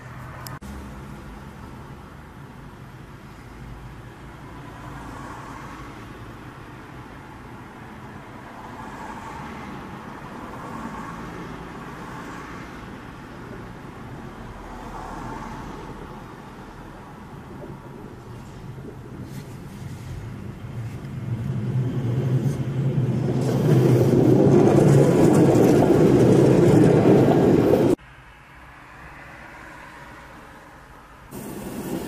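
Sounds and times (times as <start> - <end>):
cars passing close by: 0.0 - 32.0
low hum of street traffic: 0.0 - 32.0.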